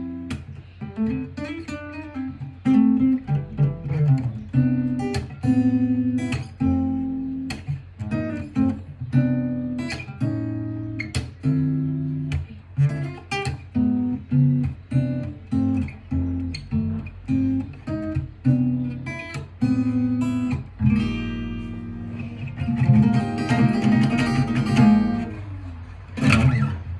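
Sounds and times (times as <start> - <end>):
acoustic guitar playing: 0.0 - 26.9.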